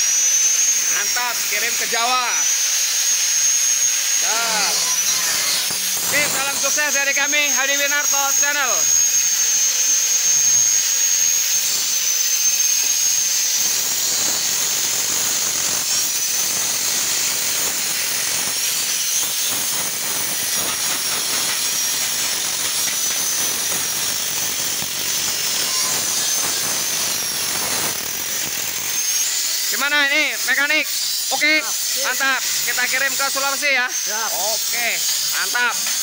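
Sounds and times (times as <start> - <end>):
angle grinder grinding steel: 0.0 - 36.0.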